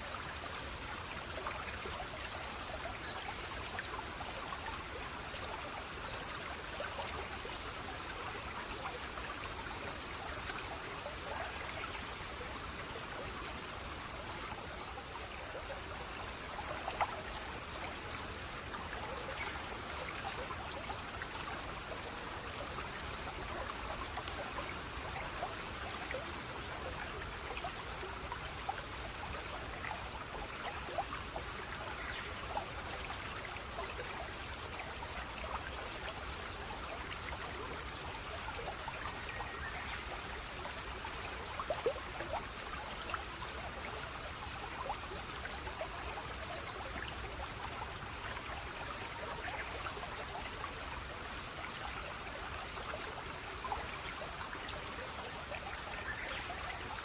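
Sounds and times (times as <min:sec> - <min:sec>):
small water drips: 0:00.0 - 0:57.0
water trickling and splashing: 0:00.0 - 0:57.0.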